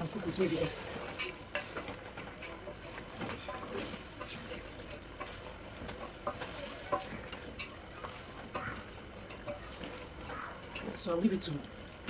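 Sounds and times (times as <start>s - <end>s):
light sizzle: 0.0s - 12.0s
utensil knocking and scraping pot: 0.0s - 12.0s.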